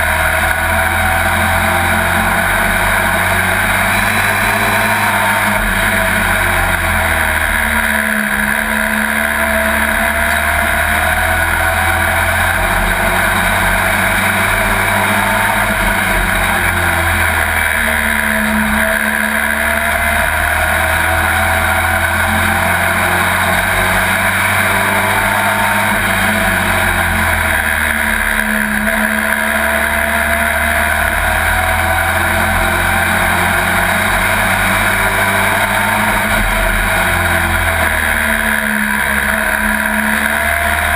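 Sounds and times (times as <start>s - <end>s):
race truck engine: 0.0s - 40.9s.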